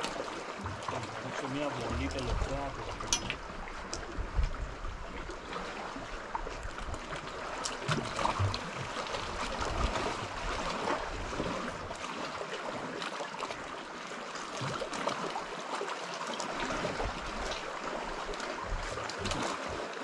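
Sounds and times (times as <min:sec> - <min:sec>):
faint splashes: 0:00.0 - 0:20.0
small waves lapping on rocks: 0:00.0 - 0:20.0.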